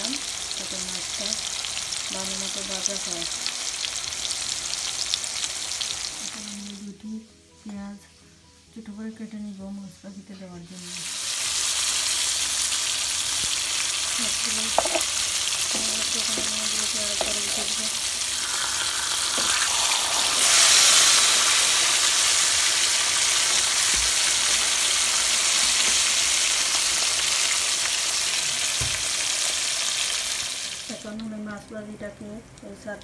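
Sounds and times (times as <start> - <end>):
fish sizzling in hot oil: 0.0 - 6.9, 10.7 - 31.2.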